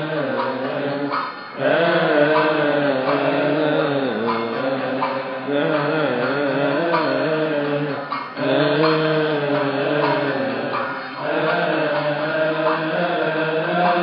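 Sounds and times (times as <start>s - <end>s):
voices chanting a hymn: 0.0s - 14.0s.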